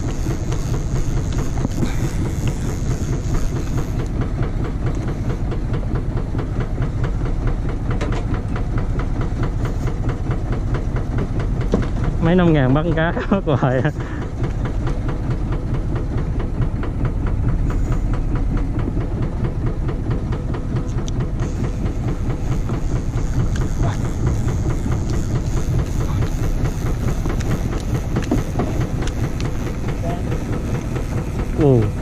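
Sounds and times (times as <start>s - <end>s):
boat engine knocking: 0.0s - 32.0s.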